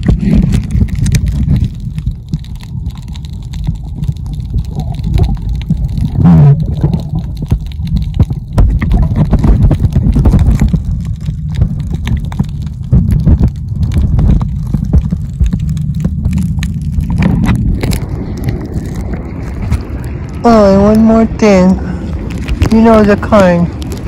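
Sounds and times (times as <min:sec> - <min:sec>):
sea water sloshing: 0:00.0 - 0:24.0.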